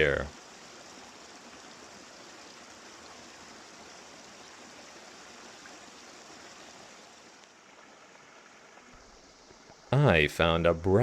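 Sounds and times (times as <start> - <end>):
brook running water: 0.0 - 11.0.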